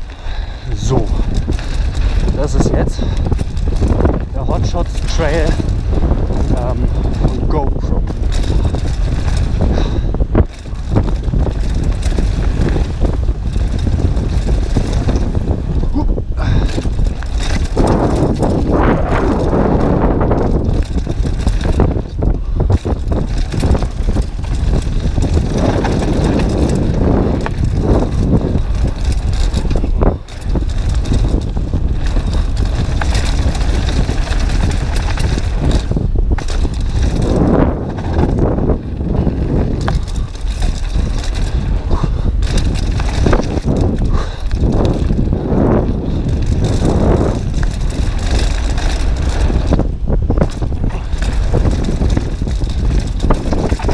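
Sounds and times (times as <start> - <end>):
tyres rumbling over gravel: 0.0 - 53.9
wind rush on microphone: 0.0 - 53.9.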